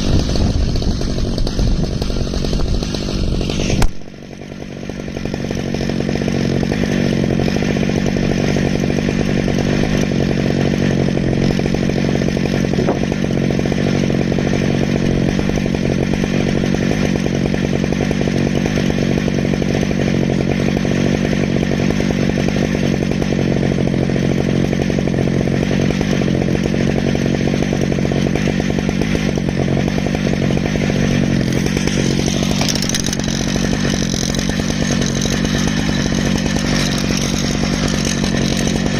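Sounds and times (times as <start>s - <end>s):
chainsaw cutting log at high revs: 0.0s - 38.9s.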